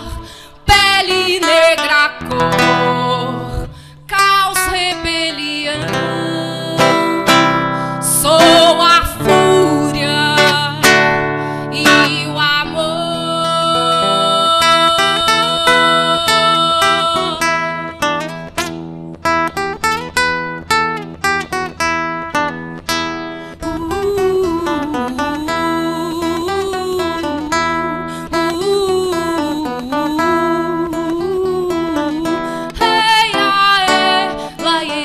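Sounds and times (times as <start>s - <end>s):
acoustic guitar picking notes: 0.0s - 35.0s.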